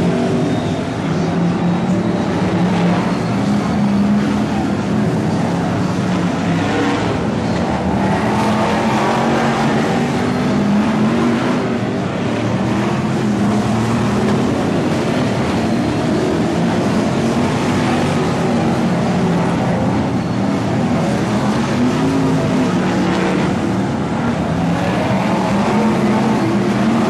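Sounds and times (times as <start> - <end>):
racing car engines roaring: 0.0 - 27.0.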